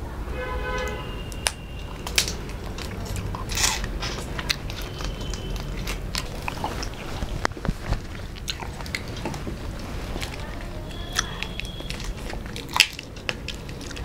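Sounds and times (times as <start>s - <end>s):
mouth clicks: 0.8s - 14.0s
people chewing crunchy food: 0.8s - 14.0s.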